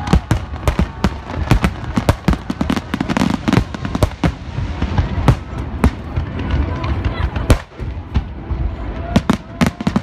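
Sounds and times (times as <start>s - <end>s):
continuous low rumble: 0.0s - 10.0s
fireworks bangs and cracks: 0.0s - 10.0s.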